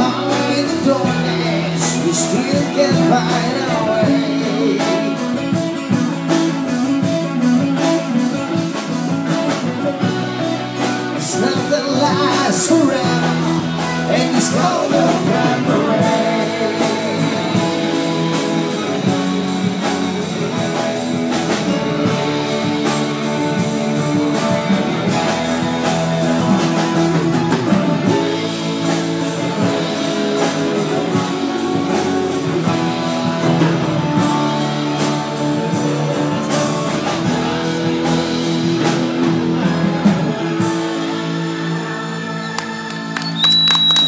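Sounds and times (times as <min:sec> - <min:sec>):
acoustic guitar: 0:00.0 - 0:44.0
electric guitar: 0:00.0 - 0:44.0
live band playing rock ballad: 0:00.0 - 0:44.0.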